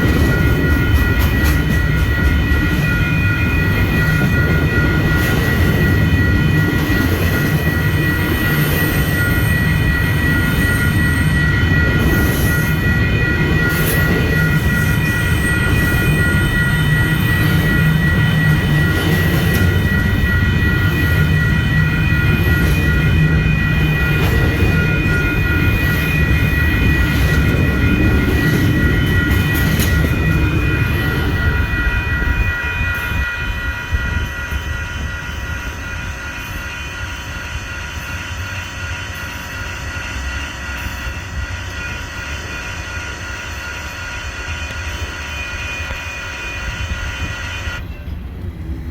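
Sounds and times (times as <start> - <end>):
high wheel squeal: 0.0 - 48.2
train wheels rumbling on rail: 0.0 - 48.9.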